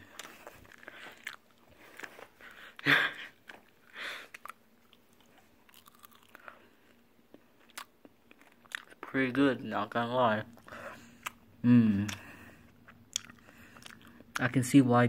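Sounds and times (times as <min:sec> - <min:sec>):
person chewing crunchy fries: 0:00.0 - 0:09.1, 0:10.5 - 0:14.5.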